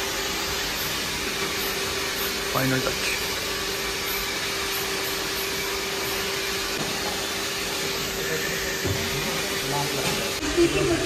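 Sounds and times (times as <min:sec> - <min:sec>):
blower rushing air: 0:00.0 - 0:11.0.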